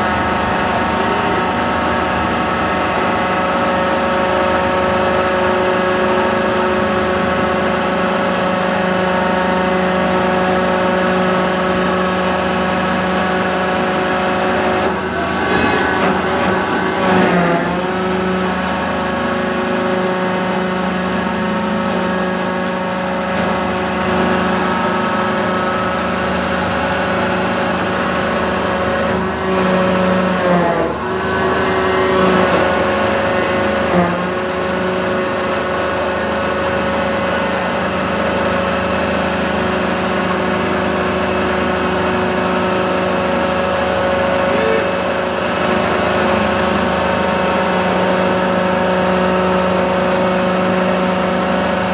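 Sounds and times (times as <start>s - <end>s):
engine running under load: 0.0s - 51.9s.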